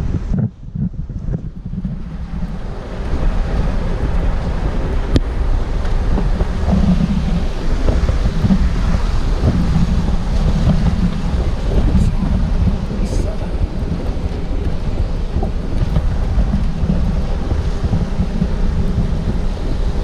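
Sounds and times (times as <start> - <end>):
vehicle rumbling on rocky track: 0.0 - 20.0
wind buffeting microphone: 0.0 - 20.0.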